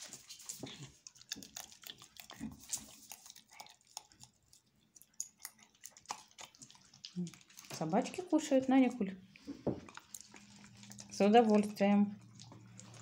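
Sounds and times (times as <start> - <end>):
dogs chewing wet food: 0.0 - 13.0.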